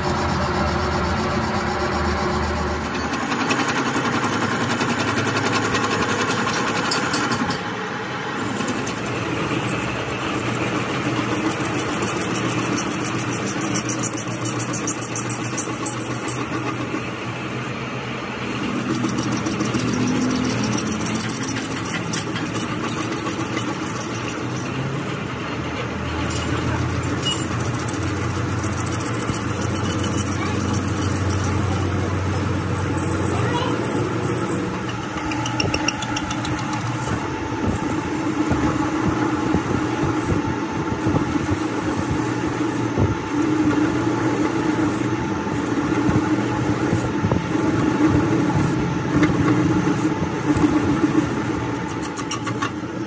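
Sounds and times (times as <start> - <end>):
metal lathe running: 0.0 - 53.0.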